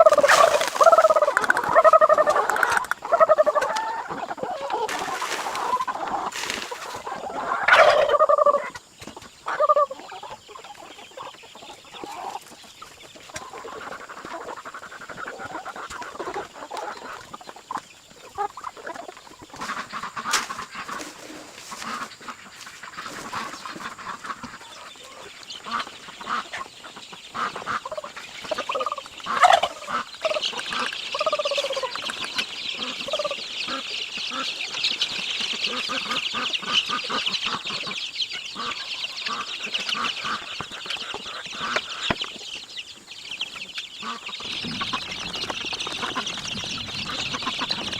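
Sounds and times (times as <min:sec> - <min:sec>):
chickens clucking and calling: 0:00.0 - 0:47.9.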